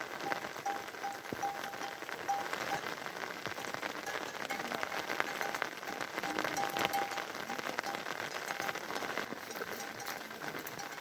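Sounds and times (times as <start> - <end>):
rain pattering: 0.0 - 11.0.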